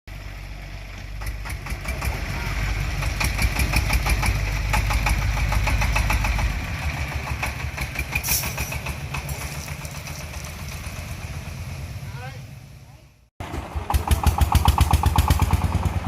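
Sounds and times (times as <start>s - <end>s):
diesel engine knocking: 0.1s - 11.5s, 13.4s - 16.0s.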